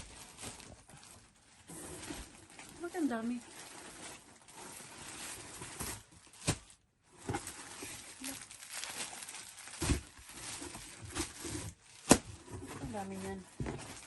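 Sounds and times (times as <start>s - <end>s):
clothing and plastic packaging rustling: 0.0s - 14.0s.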